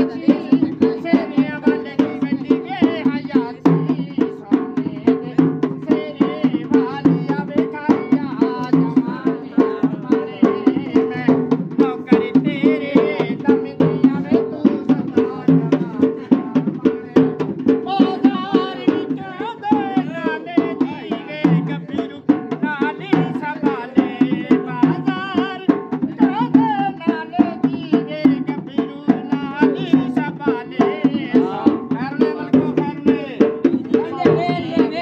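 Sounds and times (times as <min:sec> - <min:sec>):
barrel drum beaten with sticks: 0:00.0 - 0:35.0.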